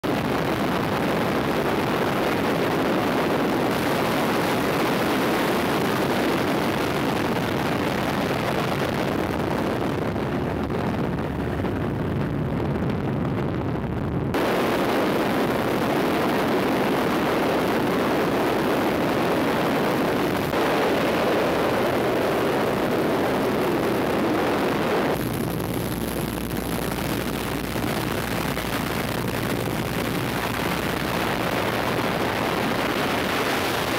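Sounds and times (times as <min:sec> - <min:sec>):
aircraft engine noise: 0:00.0 - 0:33.9
wind noise inside aircraft: 0:00.0 - 0:33.9.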